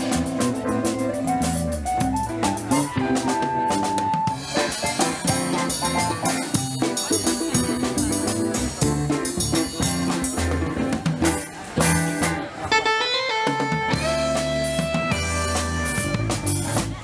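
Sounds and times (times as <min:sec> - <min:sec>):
drum kit beat: 0:00.0 - 0:17.0
guitar: 0:00.0 - 0:17.0
low bass notes: 0:00.0 - 0:17.0.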